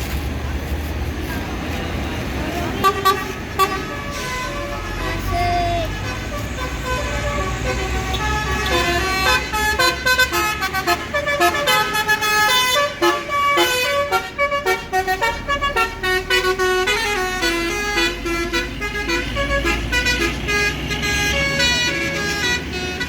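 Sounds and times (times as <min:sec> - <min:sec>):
bus engine rumble: 0:00.0 - 0:23.0
bus horn playing tune: 0:02.7 - 0:23.0.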